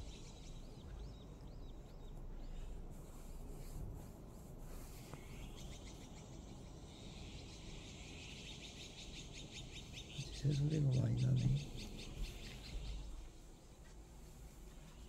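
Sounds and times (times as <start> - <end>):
birds chirping: 0.0 - 3.6, 4.9 - 15.0
outdoor background noise: 0.0 - 15.0.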